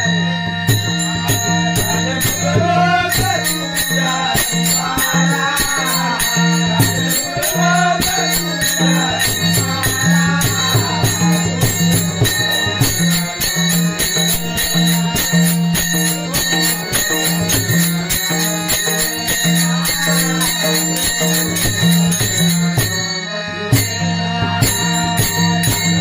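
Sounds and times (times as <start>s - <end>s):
drum pattern: 0.0s - 23.1s
jingling hand cymbals: 0.0s - 26.0s
wavering melody line: 0.0s - 26.0s.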